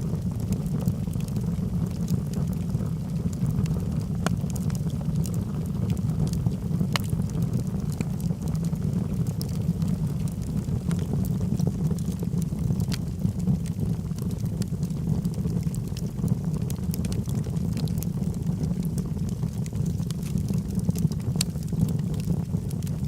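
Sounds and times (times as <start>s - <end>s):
fire flames rumbling: 0.0s - 23.0s
wood crackling and popping: 0.0s - 23.0s.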